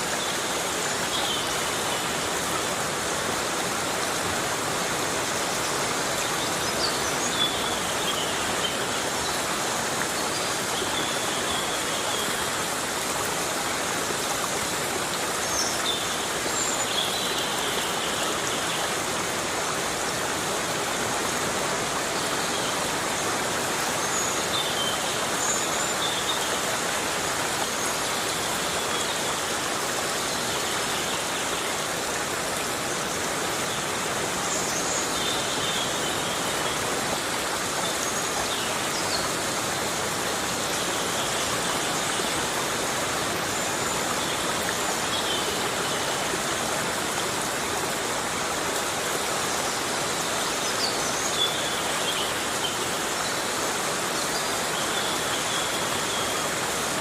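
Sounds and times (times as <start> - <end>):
heavy rain hiss: 0.0 - 57.0.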